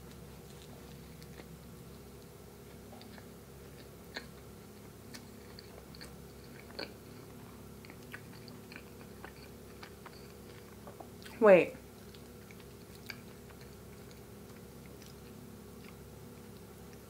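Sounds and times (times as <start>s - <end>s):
person chewing with mouth smacks: 0.0s - 17.0s.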